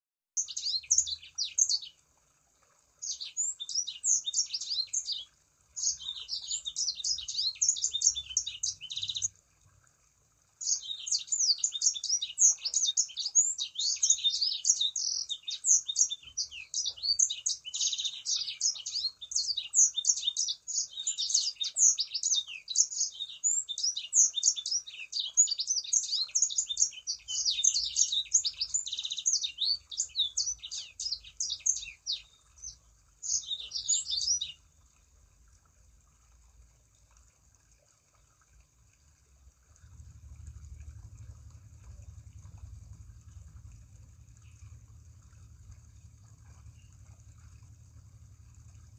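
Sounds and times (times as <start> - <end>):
songbird twittering song: 0.4 - 2.0, 3.0 - 9.4, 10.6 - 34.7, 39.8 - 48.9.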